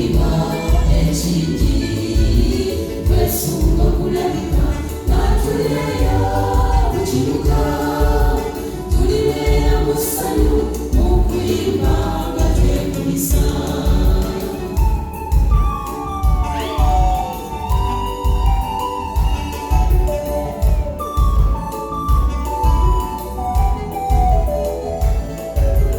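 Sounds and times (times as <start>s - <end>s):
bass-heavy beat: 0.0s - 25.9s
choir singing gospel: 0.0s - 25.9s.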